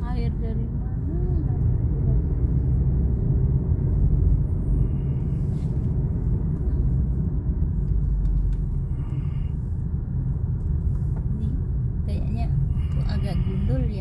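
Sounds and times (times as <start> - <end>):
car driving rumble inside cabin: 0.0 - 14.0.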